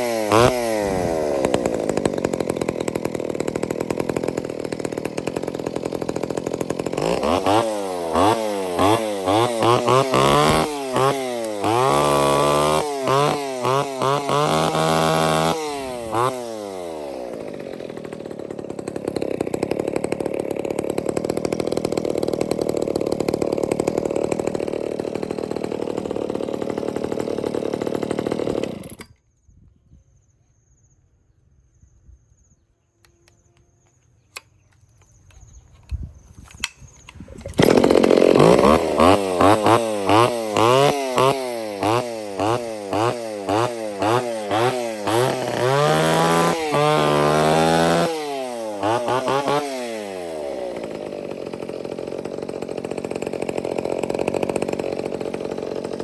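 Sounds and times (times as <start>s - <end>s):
chainsaw engine revving: 0.0s - 29.1s, 36.6s - 56.0s.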